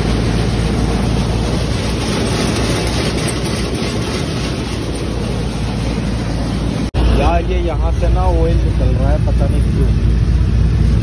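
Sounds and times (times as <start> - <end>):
deep engine hum: 0.0 - 11.0
thresher machine noise: 0.0 - 11.0.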